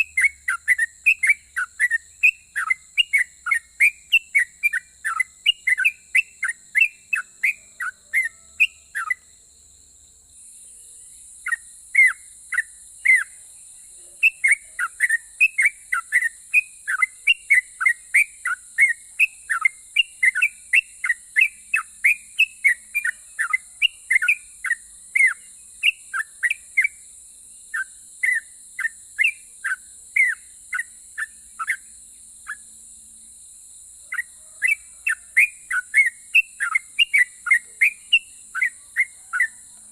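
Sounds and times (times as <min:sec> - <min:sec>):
bird whistling song: 0:00.0 - 0:09.3, 0:11.0 - 0:27.1, 0:27.7 - 0:32.7, 0:34.1 - 0:39.9
faint steady hiss: 0:00.0 - 0:39.9.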